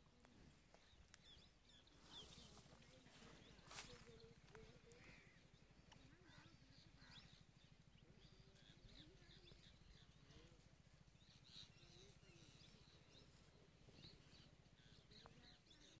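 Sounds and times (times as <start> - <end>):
low steady rumble: 0.0 - 15.9
faint bird chirps: 0.0 - 16.0.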